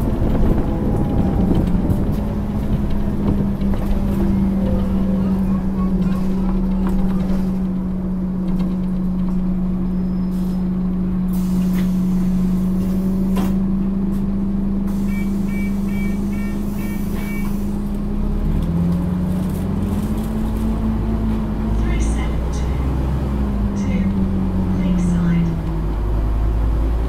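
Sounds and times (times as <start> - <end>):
bus engine running: 0.0 - 27.0.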